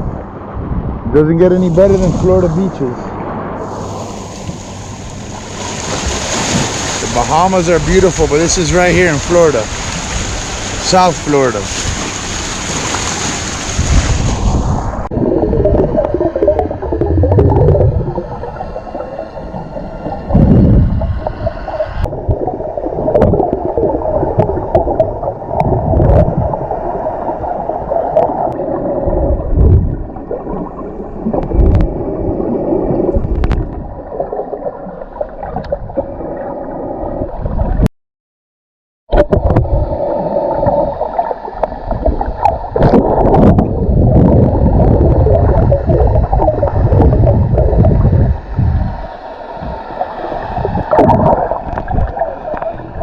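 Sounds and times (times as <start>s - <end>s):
water sloshing underwater: 1.7s - 37.9s, 39.1s - 53.0s.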